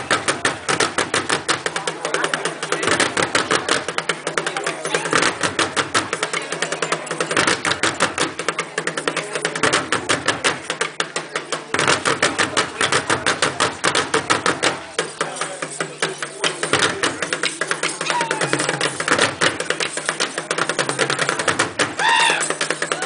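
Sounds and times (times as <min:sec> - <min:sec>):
fast steady drumming: 0:00.0 - 0:23.0.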